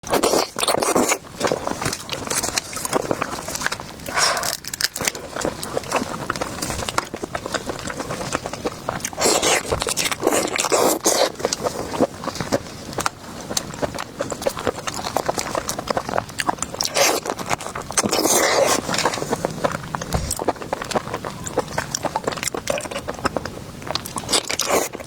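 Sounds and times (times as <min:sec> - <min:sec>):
close biting and chewing: 0:00.0 - 0:25.0.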